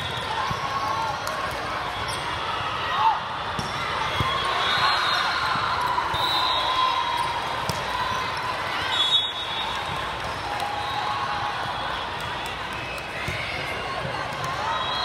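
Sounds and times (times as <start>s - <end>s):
voices in a gym: 0.0s - 15.0s.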